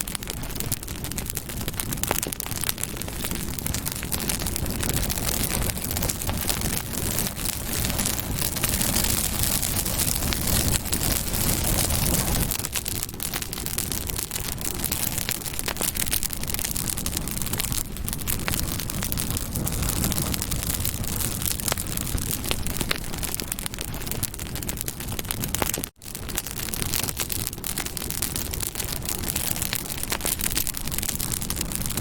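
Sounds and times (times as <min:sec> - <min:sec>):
flames rumbling: 0:00.0 - 0:32.0
wood crackling and popping: 0:00.0 - 0:32.0.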